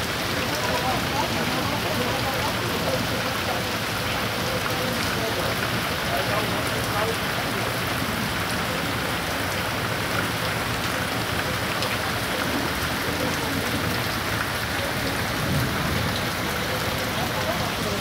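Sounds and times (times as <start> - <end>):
heavy rain on paving stones: 0.0 - 18.0.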